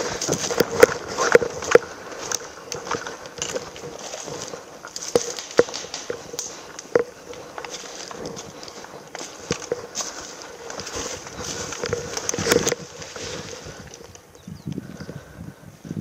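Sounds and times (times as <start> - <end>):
footsteps on dry leaves and twigs: 0.0 - 15.4.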